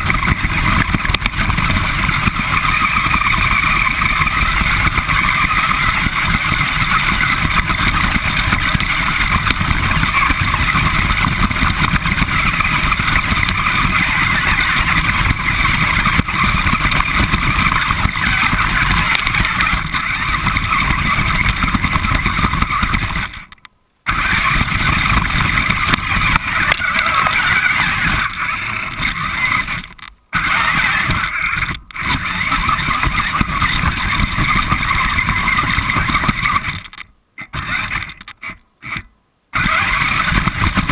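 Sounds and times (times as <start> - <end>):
rc car motor running: 0.0 - 40.9
tyres rumbling over ground: 0.0 - 40.9.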